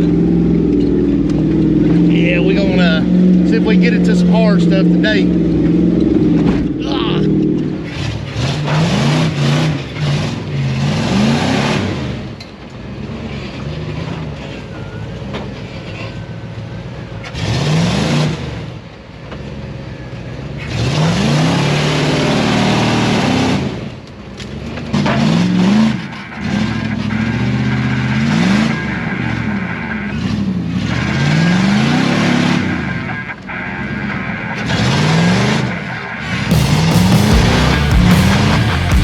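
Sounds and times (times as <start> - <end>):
off-road vehicle engine revving: 0.0 - 39.0.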